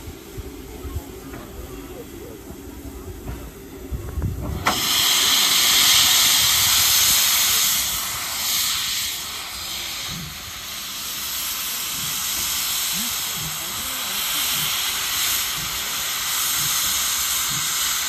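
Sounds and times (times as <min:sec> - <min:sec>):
locomotive steam hissing: 0:00.0 - 0:18.0.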